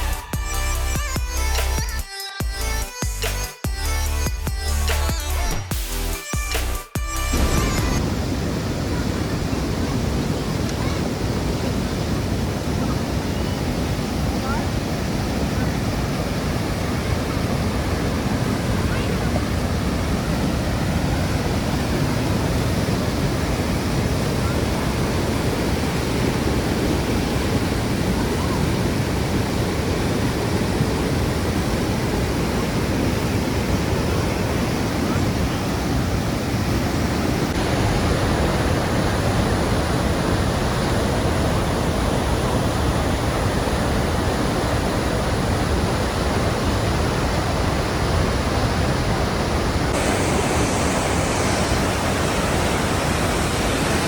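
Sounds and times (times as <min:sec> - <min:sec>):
waterfall rushing: 0:07.1 - 0:54.0.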